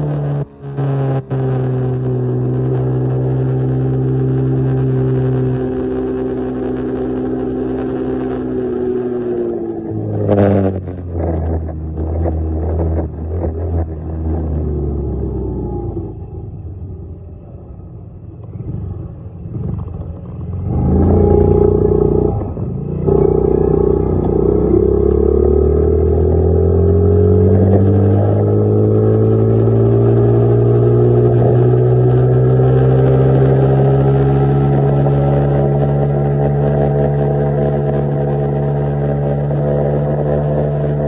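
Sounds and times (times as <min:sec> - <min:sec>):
dirt bike engine accelerating: 0:00.0 - 0:41.0.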